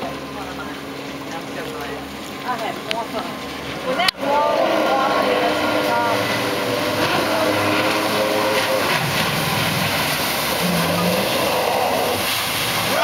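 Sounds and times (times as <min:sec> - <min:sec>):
boat engine drone: 0:00.0 - 0:13.0
water spray rushing: 0:01.6 - 0:13.0.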